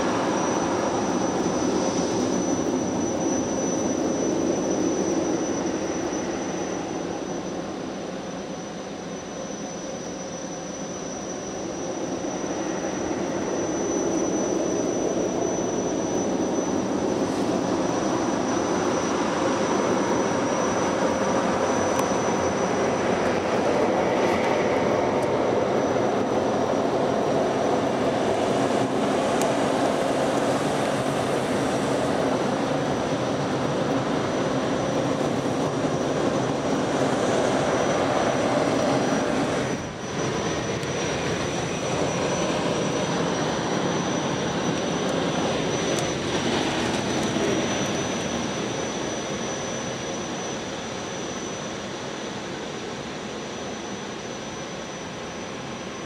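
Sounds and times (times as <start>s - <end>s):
car wash machinery whine: 0.0s - 56.0s.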